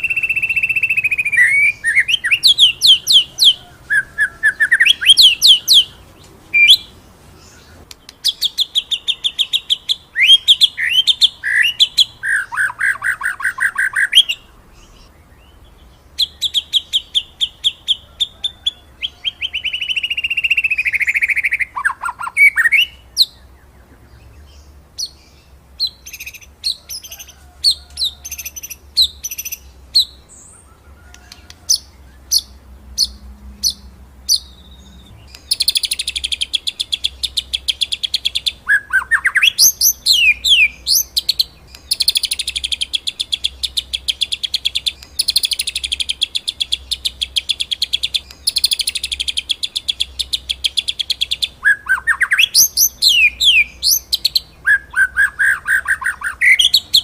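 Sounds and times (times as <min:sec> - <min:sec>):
bird singing varied phrases: 0:00.0 - 0:57.0.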